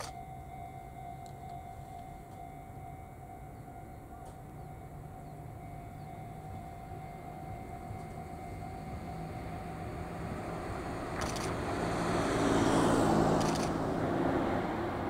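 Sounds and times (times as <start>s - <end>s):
electric locomotives running: 0.0s - 15.0s.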